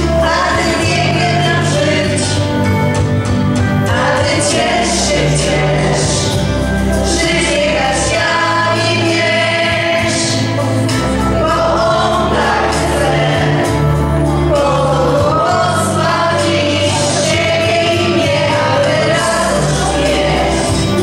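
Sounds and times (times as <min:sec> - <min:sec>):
held bass notes: 0:00.0 - 0:21.0
young singers singing religious song: 0:00.0 - 0:21.0.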